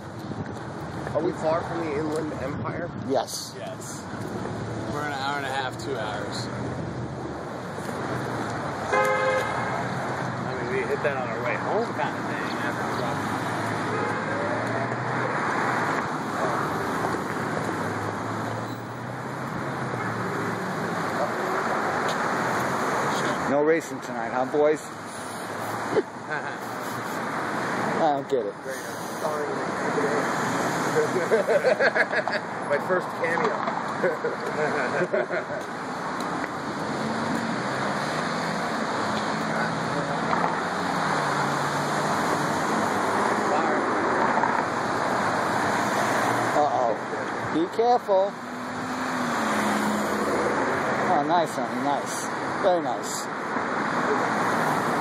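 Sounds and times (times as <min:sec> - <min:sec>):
car traffic passing: 0:00.0 - 0:55.0.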